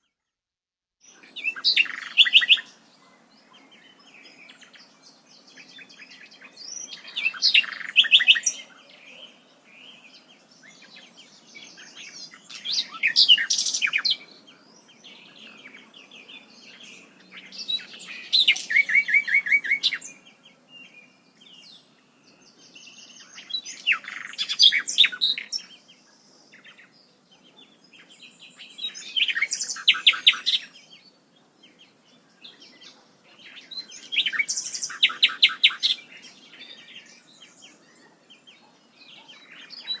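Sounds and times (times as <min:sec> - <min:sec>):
songbird chirping: 0:00.0 - 0:00.4, 0:01.0 - 0:40.0.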